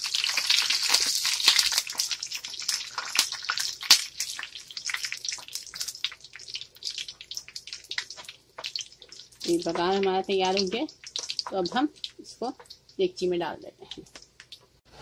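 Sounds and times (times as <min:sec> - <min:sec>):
onions and chillies sizzling in oil: 0:00.0 - 0:14.0.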